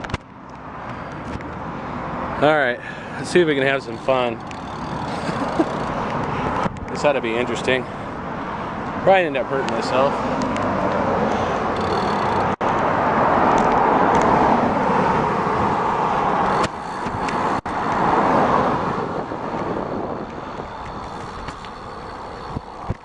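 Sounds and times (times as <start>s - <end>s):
bicycle road noise: 0.0s - 23.0s
rushing wind: 0.0s - 23.0s.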